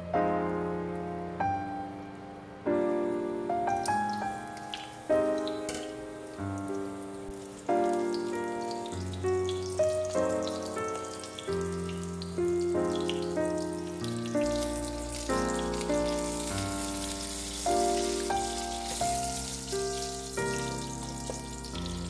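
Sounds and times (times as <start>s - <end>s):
meat patty sizzling in oil: 3.8s - 22.0s.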